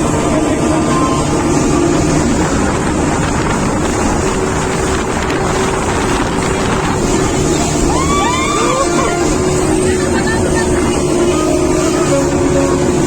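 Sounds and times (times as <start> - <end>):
engine drone: 0.0 - 13.0
wind noise on microphone: 0.0 - 13.0.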